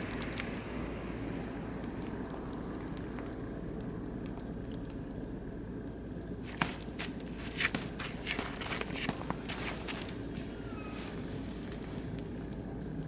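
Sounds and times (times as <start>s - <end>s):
low background noise: 0.0s - 13.0s
wood fire crackling and popping: 0.0s - 13.0s.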